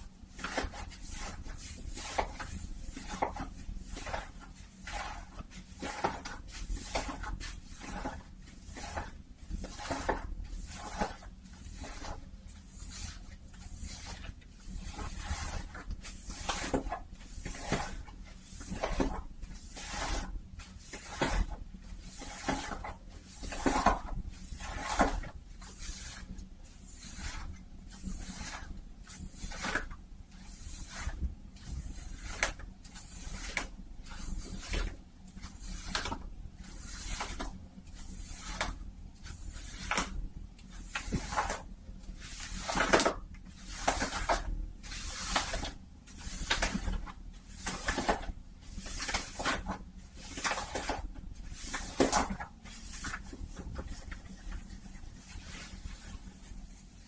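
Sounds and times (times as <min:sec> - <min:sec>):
fabric rubbing and scratching: 0:00.0 - 0:57.0.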